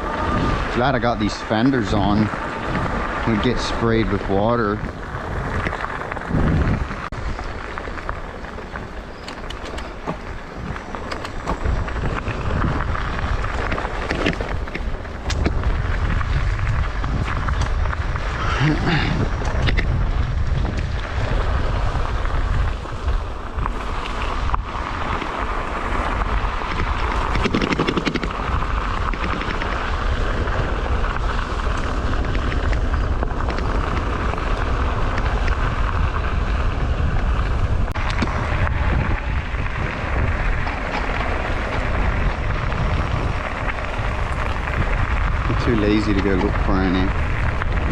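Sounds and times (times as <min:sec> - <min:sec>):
e-bike road noise on wet pavement: 0:00.0 - 0:47.9
wind on microphone: 0:00.0 - 0:47.9.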